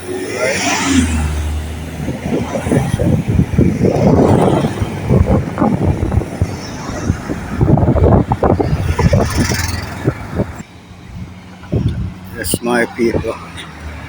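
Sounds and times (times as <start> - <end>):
car engine and tyres running: 0.0 - 14.0.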